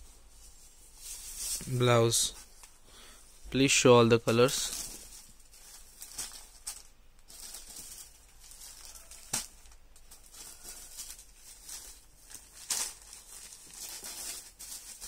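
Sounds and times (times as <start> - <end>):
cloth rustling: 0.0 - 3.5, 4.1 - 15.0.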